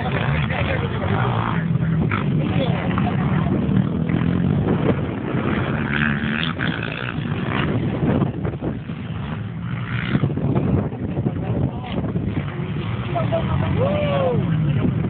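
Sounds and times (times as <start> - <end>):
other quad engines: 0.0 - 15.0
quad engine revving: 0.0 - 15.0.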